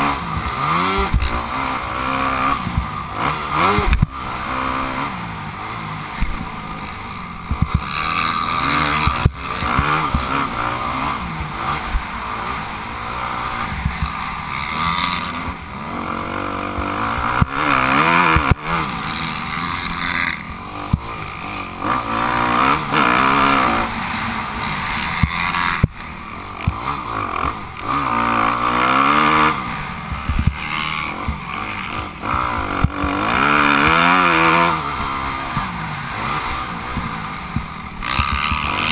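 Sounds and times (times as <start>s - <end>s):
motocross bike engine revving: 0.0s - 38.9s
steady rushing noise: 0.0s - 38.9s.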